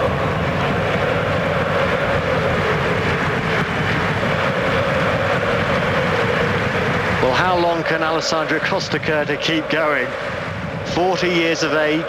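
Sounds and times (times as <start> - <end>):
stadium crowd din: 0.0 - 12.0.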